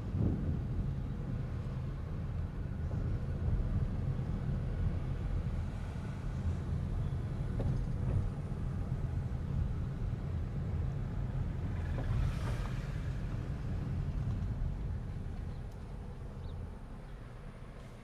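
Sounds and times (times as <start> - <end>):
car engine and road noise: 0.2 - 18.0.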